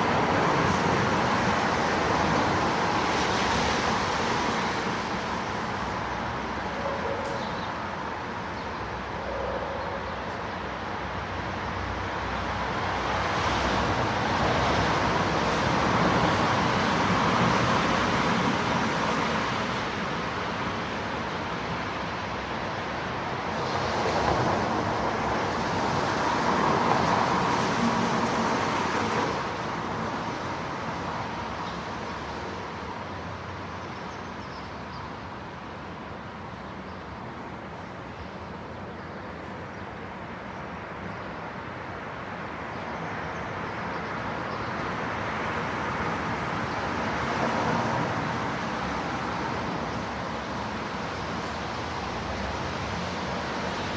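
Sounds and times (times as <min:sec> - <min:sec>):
distant street traffic: 0:00.0 - 0:53.9
vehicles passing: 0:00.0 - 0:53.9.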